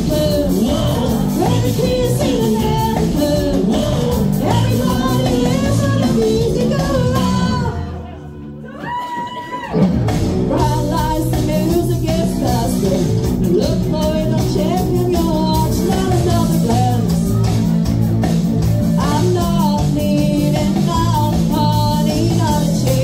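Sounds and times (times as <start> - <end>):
woman singing lead vocal: 0.0 - 8.0, 10.4 - 17.4, 19.0 - 23.0
live rock band playing: 0.0 - 23.0.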